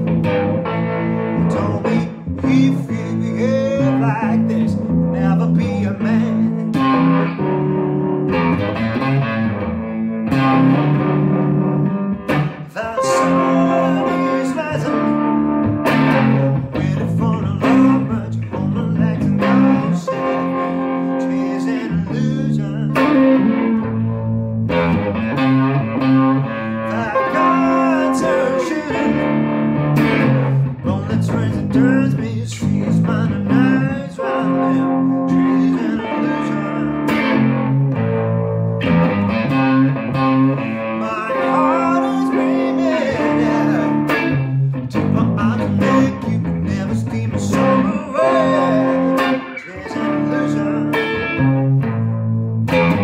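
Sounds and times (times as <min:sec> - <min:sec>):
electric guitar blues line: 0:00.0 - 0:53.0.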